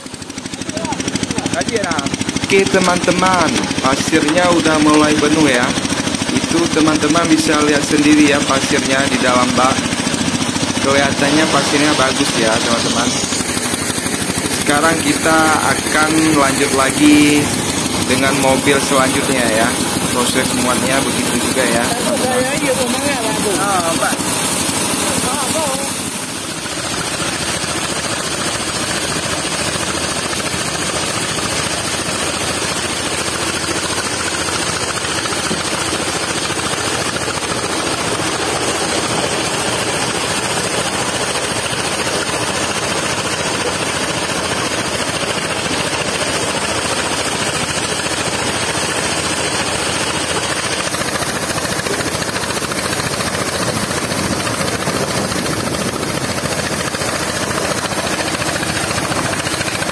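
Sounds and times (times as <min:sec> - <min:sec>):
water gushing into metal truck bed: 0:00.0 - 0:59.9.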